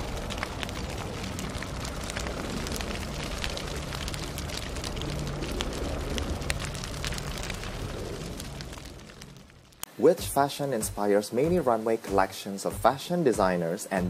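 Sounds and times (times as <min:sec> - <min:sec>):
low fire rumble: 0:00.0 - 0:12.2
fire crackling and popping: 0:00.0 - 0:13.6.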